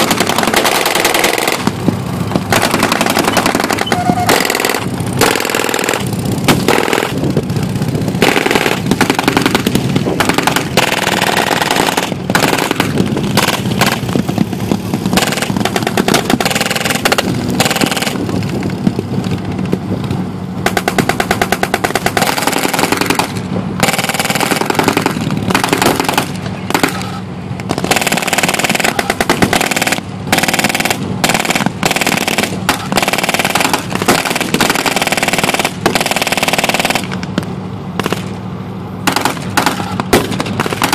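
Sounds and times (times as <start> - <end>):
automatic gunfire: 0.0 - 1.8, 2.4 - 7.2, 8.2 - 14.1, 15.1 - 18.2, 20.6 - 37.2, 39.0 - 40.9
engine running: 0.0 - 40.9.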